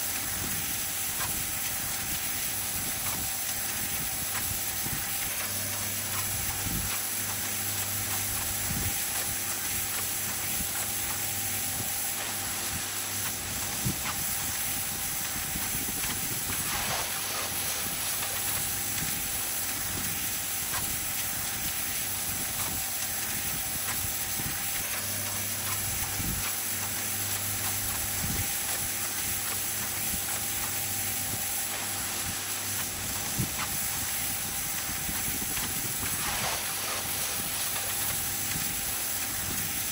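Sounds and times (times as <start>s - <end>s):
pressure washer pump hum: 0.0s - 39.9s
water jet hissing on stone: 0.0s - 39.9s.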